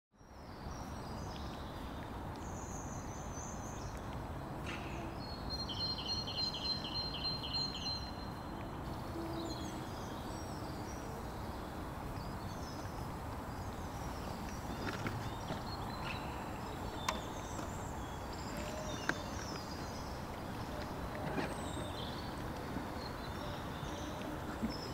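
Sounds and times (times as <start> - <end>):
small birds chirping: 0.2 - 24.9.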